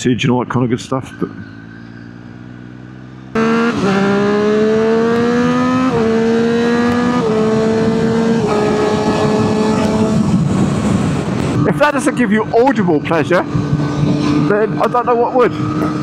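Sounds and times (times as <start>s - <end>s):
motorcycle engine accelerating: 1.1s - 16.0s.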